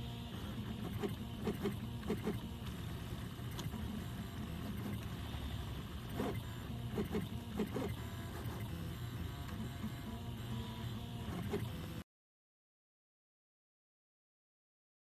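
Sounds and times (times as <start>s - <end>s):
stepper motors humming and whining: 0.0s - 12.0s.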